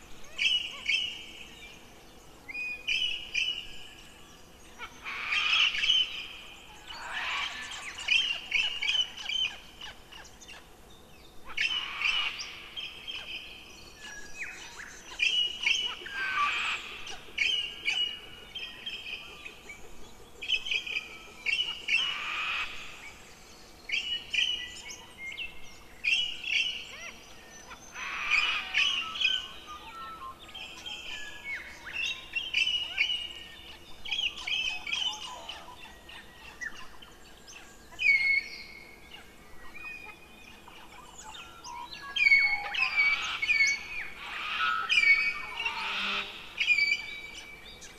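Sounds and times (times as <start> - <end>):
songbird chirps and trills: 0.0 - 47.9.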